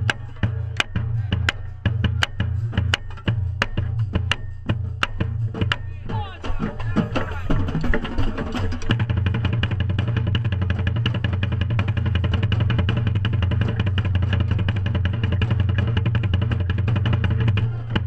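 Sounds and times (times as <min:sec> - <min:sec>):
drumline rapid roll: 0:00.0 - 0:18.0.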